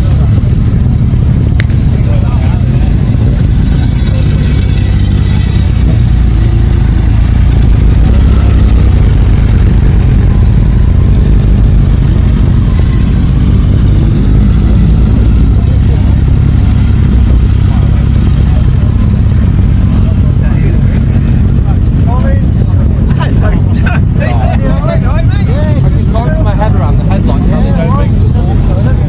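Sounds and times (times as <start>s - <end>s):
motorcycle engines rumbling: 0.0s - 29.0s
motorcycle revving: 0.0s - 29.0s.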